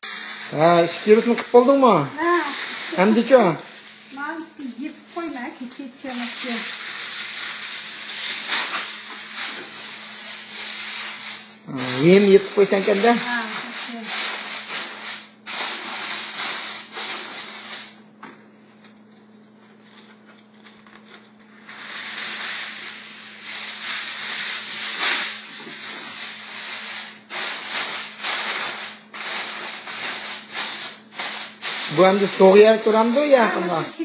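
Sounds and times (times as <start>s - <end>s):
aluminium foil crinkling: 0.0s - 18.0s, 18.9s - 34.0s.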